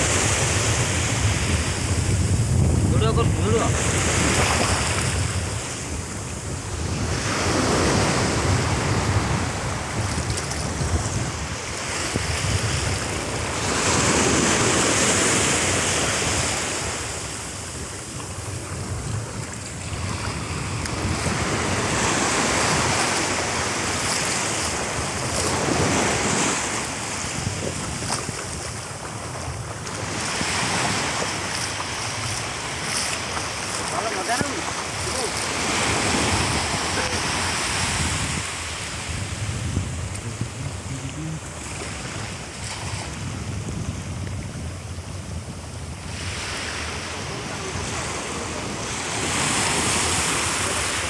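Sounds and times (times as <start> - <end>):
surf washing up beach: 0.0 - 51.0
wind rumbling on microphone: 0.0 - 51.0.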